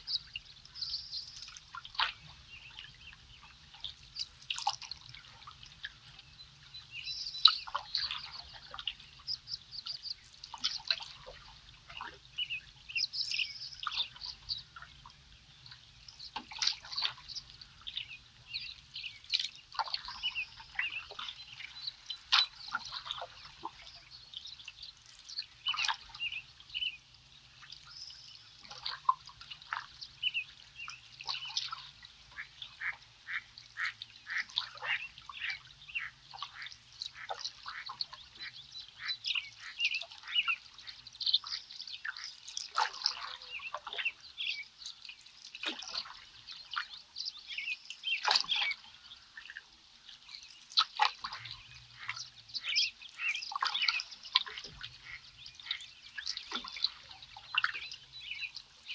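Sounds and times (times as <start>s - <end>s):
songbirds singing and calling: 0.0s - 58.9s
water dripping from paddle: 0.0s - 58.9s.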